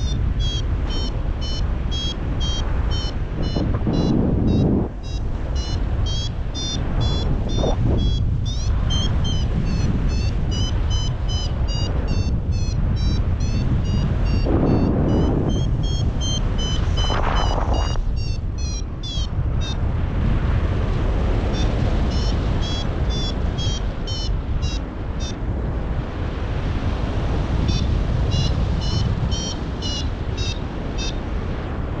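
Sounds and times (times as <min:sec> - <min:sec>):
variometer short high beeps: 0:00.0 - 0:19.8, 0:21.6 - 0:25.4, 0:27.7 - 0:31.2
wind rushing over microphone: 0:00.0 - 0:32.0.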